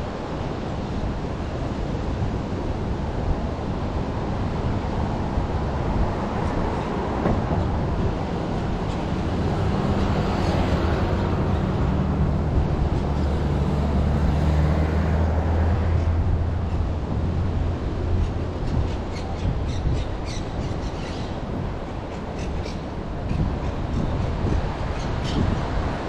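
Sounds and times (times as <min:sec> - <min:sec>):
street noise: 0:00.0 - 0:26.0.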